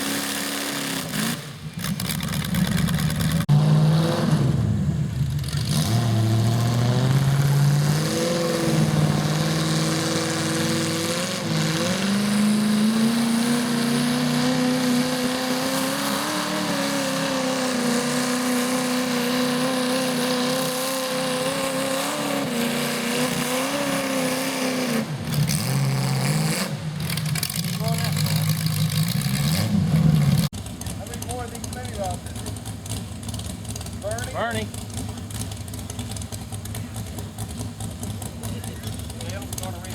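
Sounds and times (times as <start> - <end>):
tractor engine at high revs: 0.0 - 39.9.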